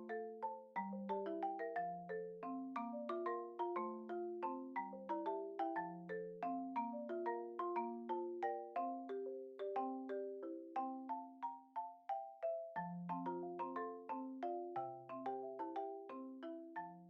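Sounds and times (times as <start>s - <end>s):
mallet percussion melody: 0.0s - 17.0s.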